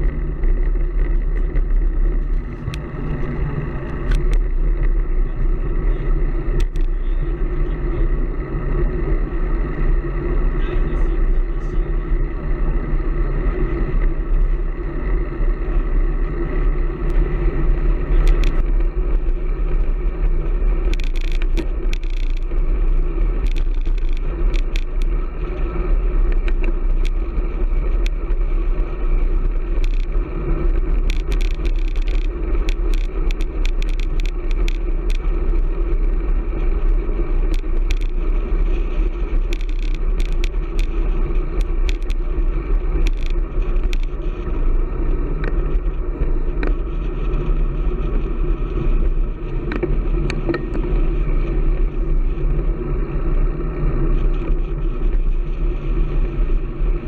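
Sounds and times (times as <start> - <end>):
sharp clicks and rattles: 0.0 - 57.0
wind buffeting microphone: 0.0 - 57.0.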